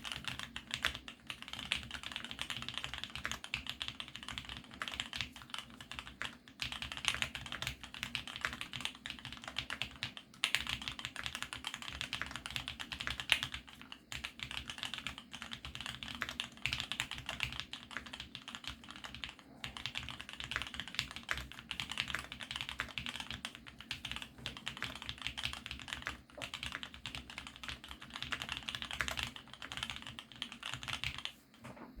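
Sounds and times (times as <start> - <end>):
typing on mechanical keyboard: 0.0 - 31.3.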